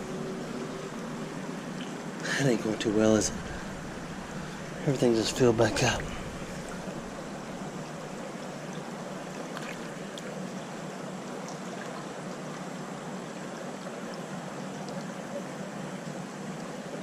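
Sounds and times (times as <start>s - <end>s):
creek water running: 0.0s - 17.0s.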